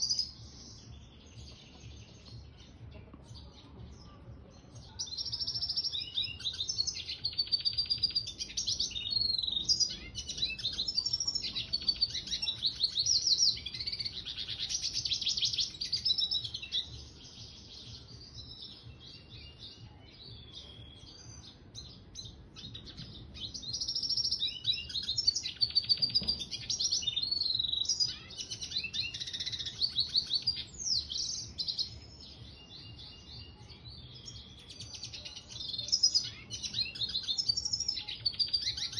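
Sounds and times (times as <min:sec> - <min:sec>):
bird twittering and trilling song: 0:00.0 - 0:38.9.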